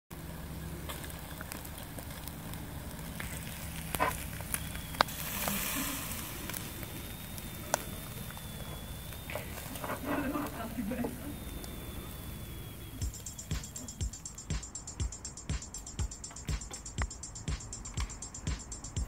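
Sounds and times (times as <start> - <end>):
chicken wings sizzling on grill: 0.1 - 19.0
steady low hum: 0.1 - 19.0.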